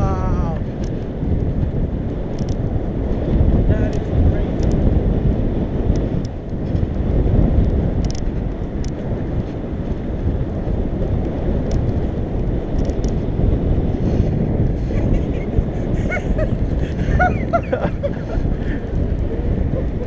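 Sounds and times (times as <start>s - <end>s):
mountain bike riding noise: 0.0s - 20.0s
wind buffeting microphone: 0.0s - 20.0s.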